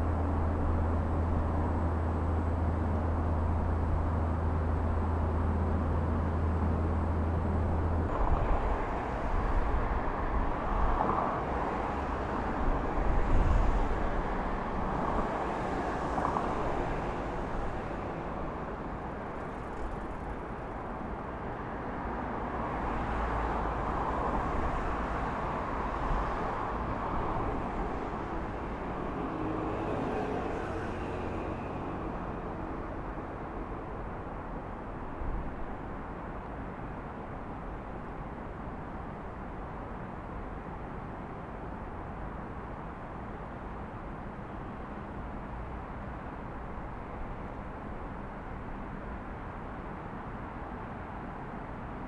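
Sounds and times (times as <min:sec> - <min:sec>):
road traffic: 0:00.0 - 0:52.0.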